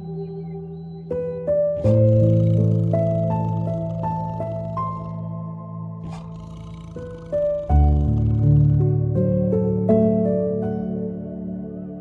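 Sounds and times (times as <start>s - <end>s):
soft keyboard background music: 0.0s - 12.0s
full chord with deep bass: 1.8s - 12.0s.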